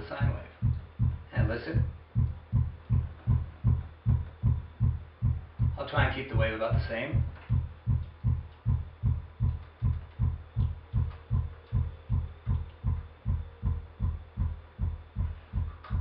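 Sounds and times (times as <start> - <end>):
looped kick drum thumps: 0.0 - 16.0.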